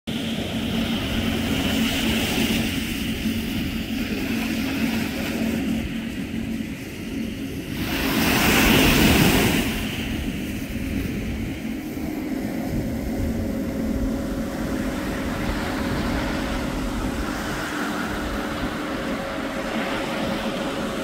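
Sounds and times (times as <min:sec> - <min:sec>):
wind: 0:00.0 - 0:21.0
motorboat engine running: 0:00.1 - 0:21.0
water rushing: 0:00.1 - 0:21.0.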